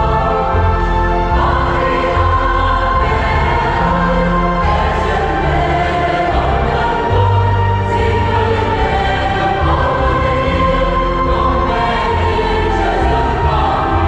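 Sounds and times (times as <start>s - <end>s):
choir singing a hymn: 0.0s - 14.0s
instrumental accompaniment: 0.0s - 14.0s.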